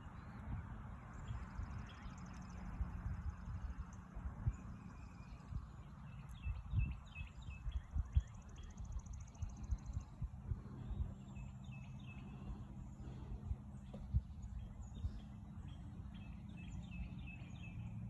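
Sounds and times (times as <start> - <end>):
small birds chirping: 0.0 - 18.0
steady low rumble: 0.0 - 18.0.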